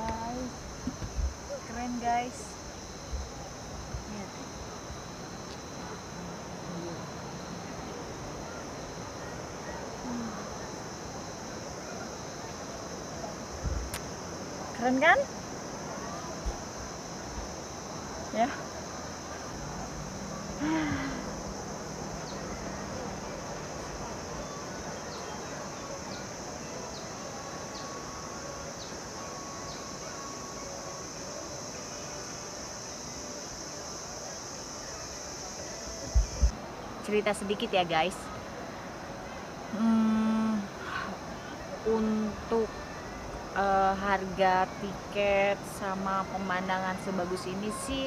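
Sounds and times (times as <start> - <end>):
high-pitched insect chorus: 0.0 - 48.0
low rushing background noise: 0.0 - 48.0.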